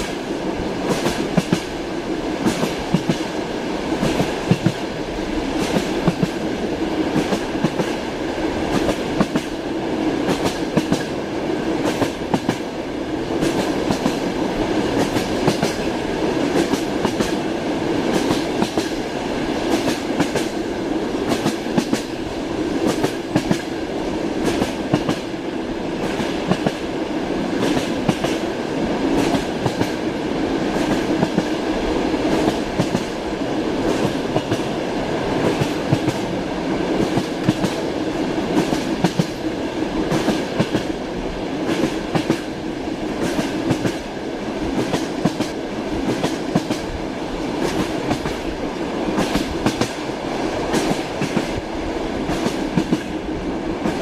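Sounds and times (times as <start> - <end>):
railway carriage rumble: 0.0 - 54.0
train wheels clickety-clack: 0.0 - 54.0.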